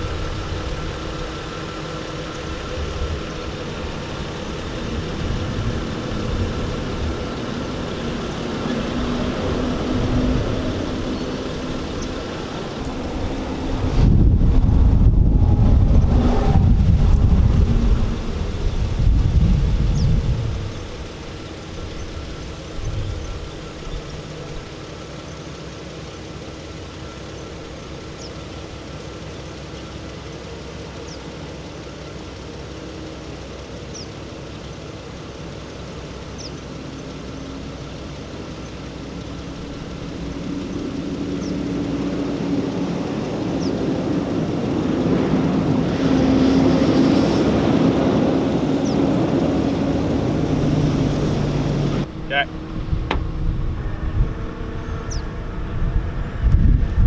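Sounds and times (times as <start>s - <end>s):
truck engines running: 0.0s - 57.0s.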